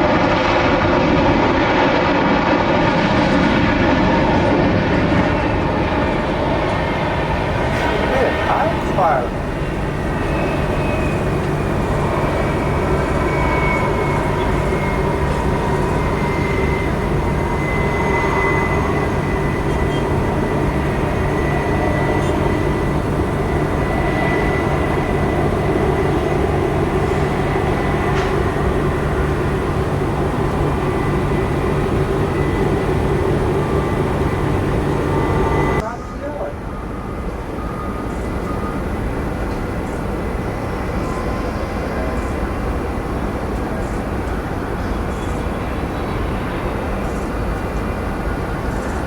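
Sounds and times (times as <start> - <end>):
jet airliner engines running: 0.0 - 49.0.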